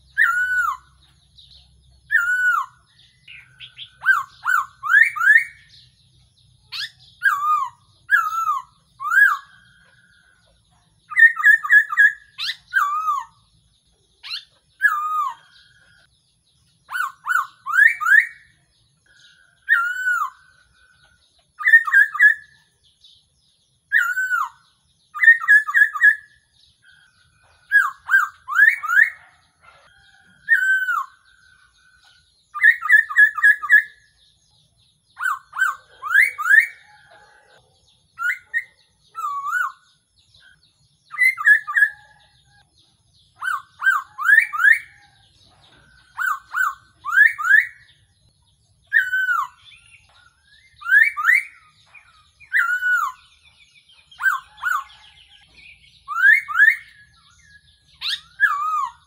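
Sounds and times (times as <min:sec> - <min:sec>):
bird singing whistled phrases: 0:00.0 - 0:01.1, 0:02.0 - 0:06.0, 0:06.7 - 0:10.2, 0:11.1 - 0:13.6, 0:14.2 - 0:16.0, 0:16.8 - 0:20.8, 0:21.5 - 0:23.2, 0:23.8 - 0:29.4, 0:30.0 - 0:31.4, 0:32.5 - 0:34.2, 0:35.1 - 0:42.6, 0:43.3 - 0:45.2, 0:45.8 - 0:48.1, 0:48.8 - 0:59.0.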